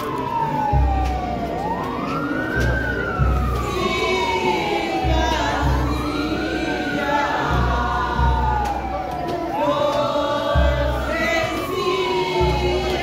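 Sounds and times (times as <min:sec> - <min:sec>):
siren wailing: 0:00.0 - 0:13.0
low booming beats: 0:00.4 - 0:13.0.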